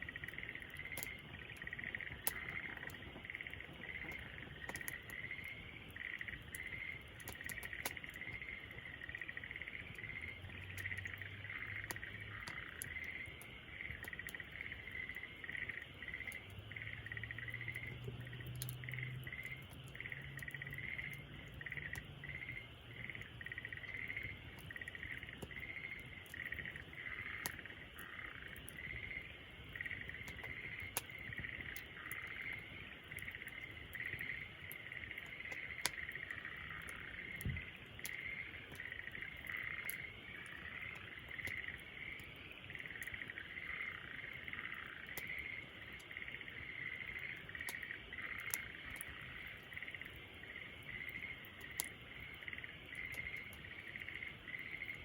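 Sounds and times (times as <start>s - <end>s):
chorus of calling animals: 0.0s - 55.0s
wood fire crackling and popping: 0.0s - 55.0s.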